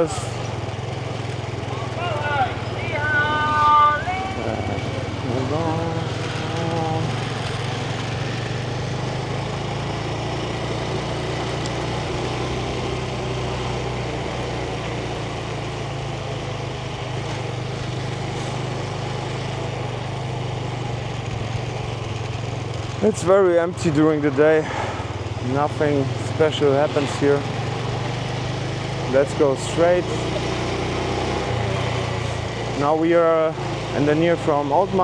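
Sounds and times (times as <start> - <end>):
motorbike engine low drone: 0.0 - 35.0.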